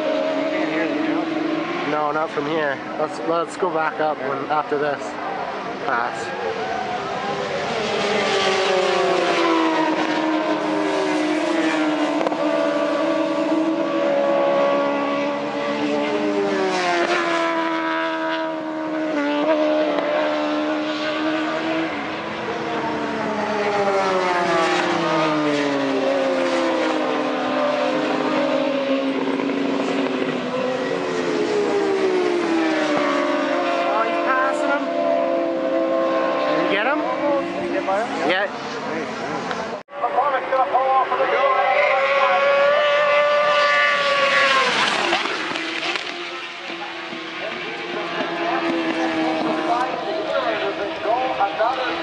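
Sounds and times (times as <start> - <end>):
motorbikes racing at high revs: 0.0 - 52.0.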